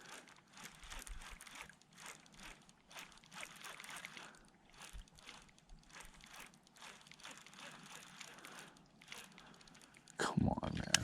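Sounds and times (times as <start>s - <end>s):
water swishing around kayak: 0.0s - 10.2s.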